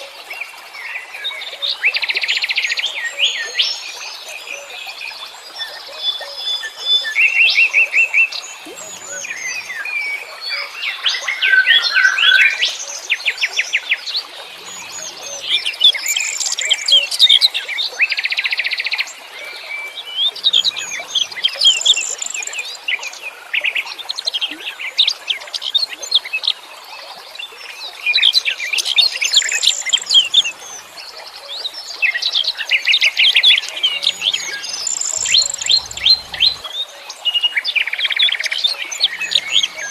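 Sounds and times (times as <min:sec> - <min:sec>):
songbirds singing and chirping: 0:02.4 - 0:26.0, 0:27.4 - 0:39.9.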